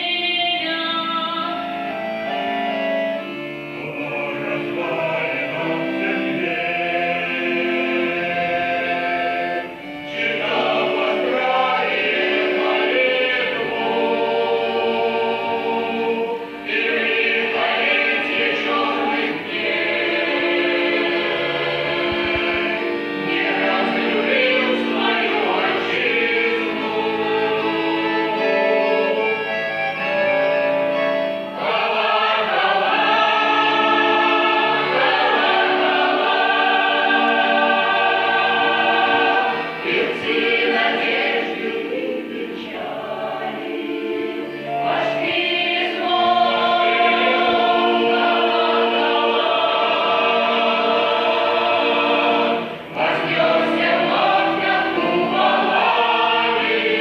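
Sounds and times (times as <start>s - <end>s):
choir singing held chords: 0.0s - 57.0s.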